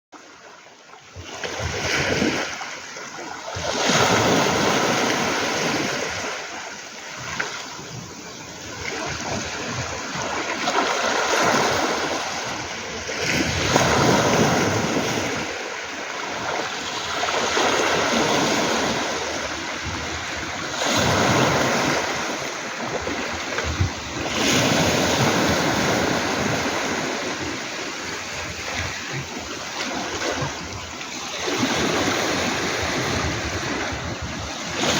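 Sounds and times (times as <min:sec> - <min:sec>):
waves breaking on pebble beach: 0:01.3 - 0:34.9.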